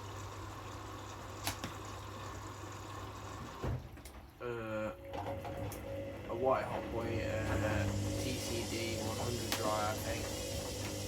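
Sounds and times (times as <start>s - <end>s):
washing machines humming: 0.0s - 11.0s.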